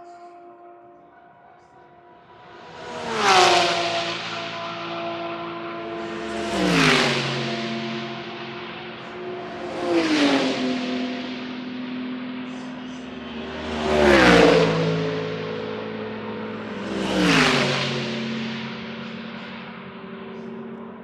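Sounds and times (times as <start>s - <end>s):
race cars passing at speed: 0.0s - 21.0s.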